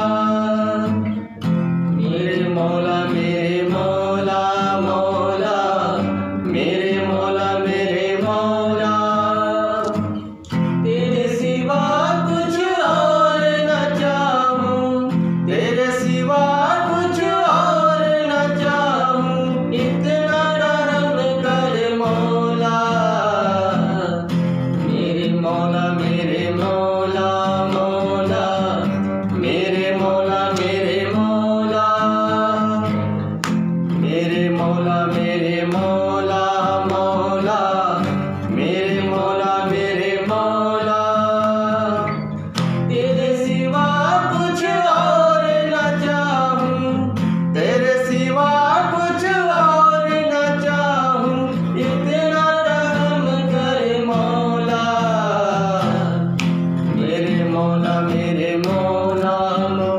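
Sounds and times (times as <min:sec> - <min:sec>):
instrumental accompaniment: 0:00.0 - 0:49.1
man singing devotional melody: 0:00.0 - 0:59.9.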